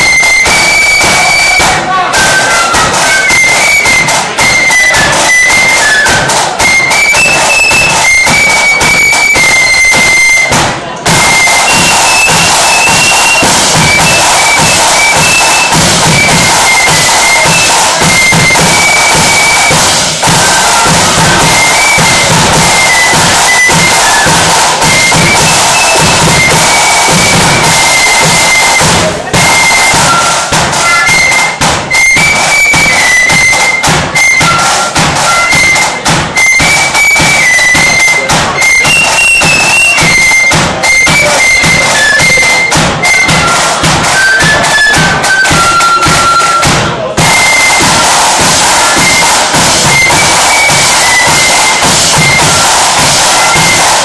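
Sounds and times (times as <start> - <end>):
flutes playing a march melody: 0.0 - 54.0
snare drums: 0.0 - 54.0.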